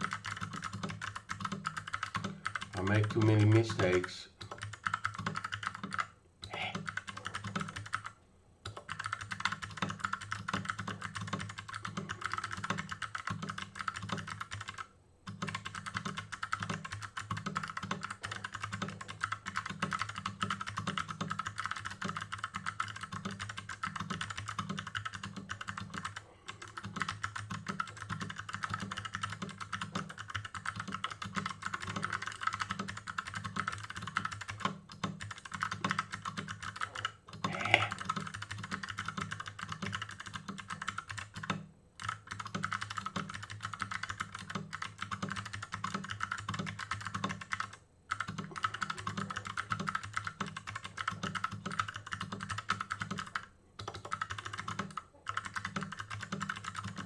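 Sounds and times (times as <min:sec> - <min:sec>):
fast typing on clicky keyboard: 0:00.0 - 0:57.0.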